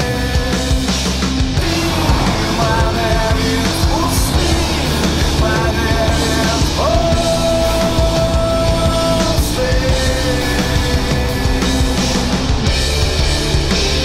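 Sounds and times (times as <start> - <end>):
loud rock music: 0.0 - 14.0.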